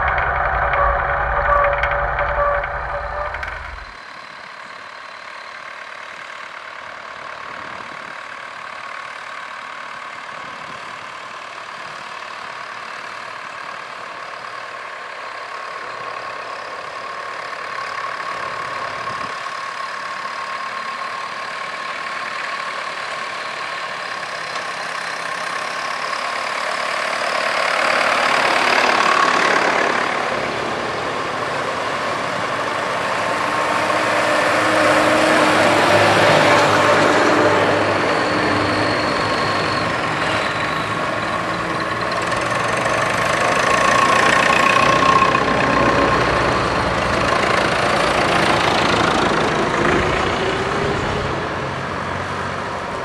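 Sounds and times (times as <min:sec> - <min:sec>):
tractor engines running: 0:00.0 - 0:53.0.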